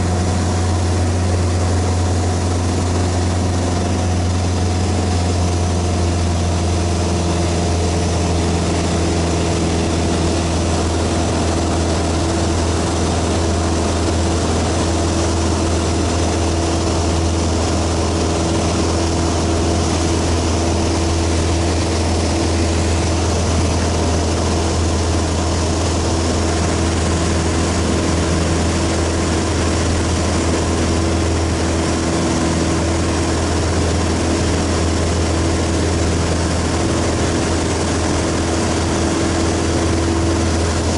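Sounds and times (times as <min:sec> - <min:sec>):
propeller airplane engine droning: 0:00.0 - 0:40.9.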